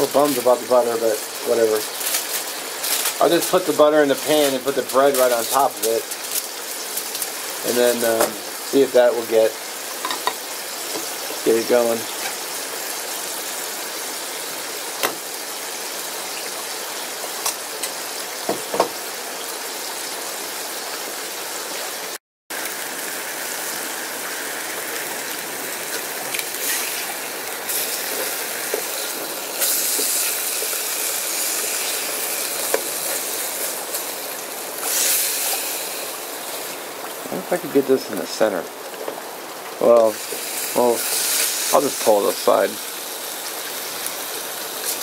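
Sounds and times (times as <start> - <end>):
ham sizzling in a frying pan: 0.0 - 45.0.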